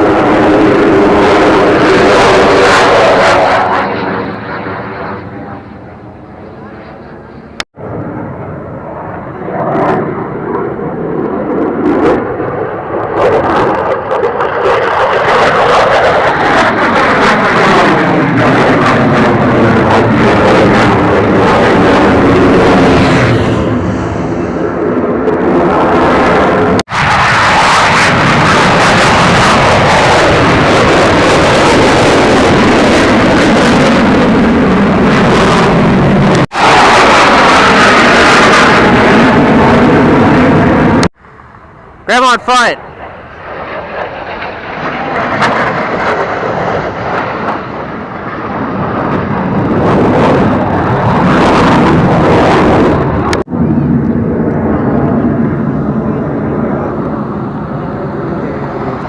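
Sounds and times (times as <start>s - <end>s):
aircraft engine noise: 0.0s - 59.0s.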